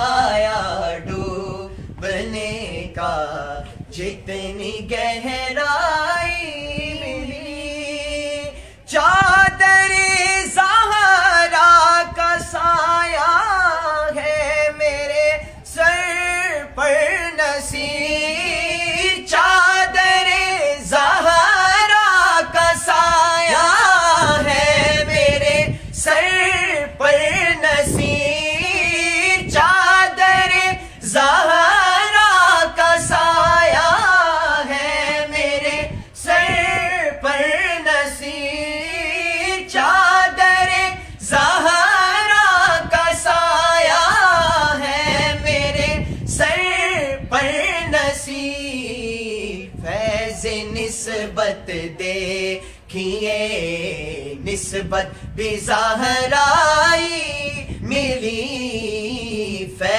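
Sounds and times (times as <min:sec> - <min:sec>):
men singing a cappella: 0:00.0 - 0:59.9.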